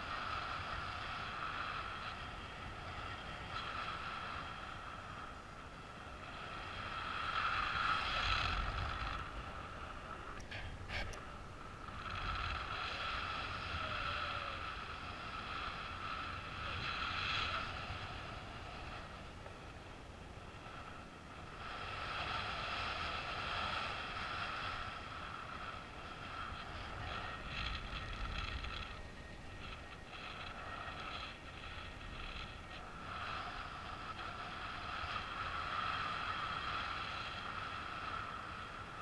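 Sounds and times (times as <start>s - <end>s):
wind buffeting camera: 0.0s - 39.0s.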